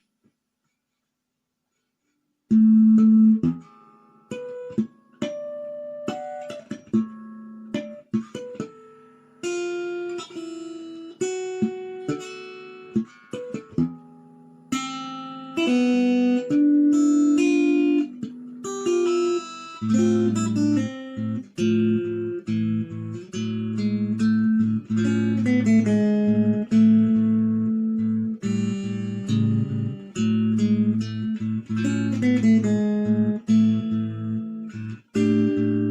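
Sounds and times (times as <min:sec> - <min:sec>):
acoustic guitar picked notes: 0:02.5 - 0:35.9.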